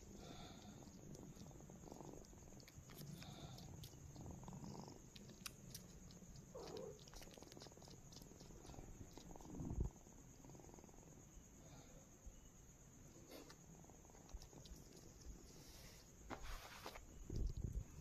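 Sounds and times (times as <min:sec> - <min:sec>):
kitten purring: 0:00.0 - 0:11.3, 0:13.2 - 0:16.2, 0:16.8 - 0:18.0.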